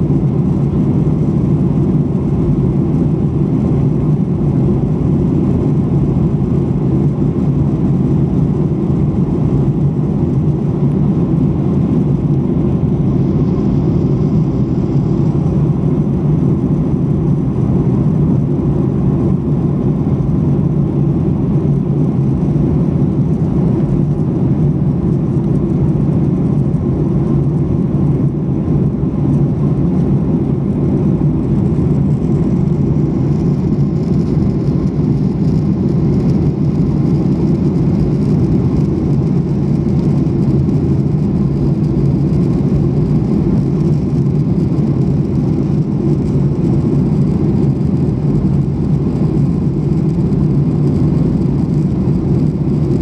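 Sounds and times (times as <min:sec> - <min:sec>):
airliner cabin roar: 0:00.0 - 0:53.0.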